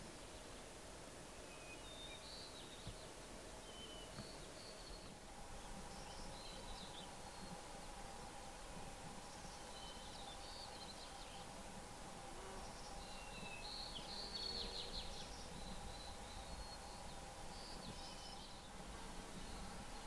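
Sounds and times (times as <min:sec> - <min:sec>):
insect hum: 0:00.0 - 0:20.0.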